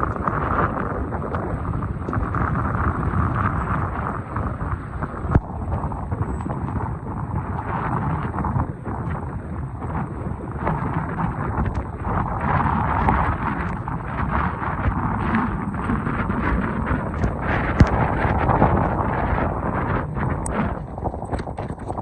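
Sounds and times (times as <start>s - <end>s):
wind gusting against microphone: 0.0s - 22.0s.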